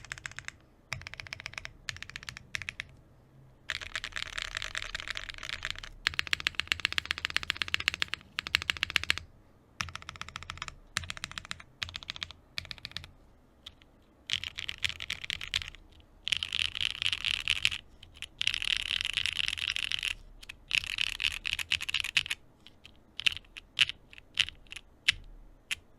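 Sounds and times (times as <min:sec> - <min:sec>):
mechanical keyboard typing: 0:00.0 - 0:03.0, 0:03.7 - 0:09.2, 0:09.8 - 0:25.9.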